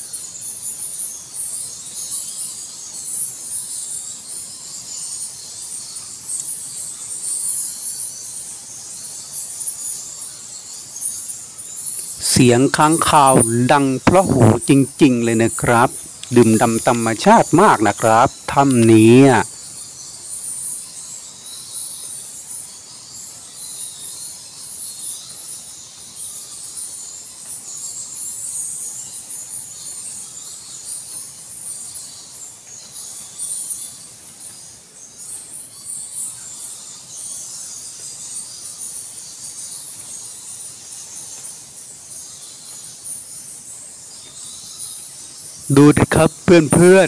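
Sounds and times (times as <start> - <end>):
bats chittering: 0.0 - 47.0.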